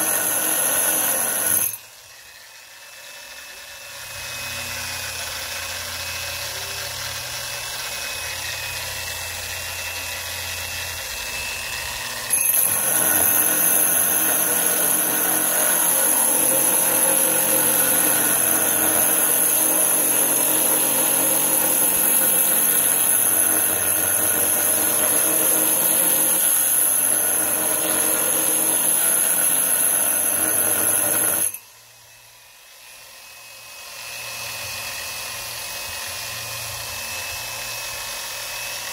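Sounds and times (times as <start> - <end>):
angle grinder boring into stone: 0.0 - 31.8, 32.8 - 38.9.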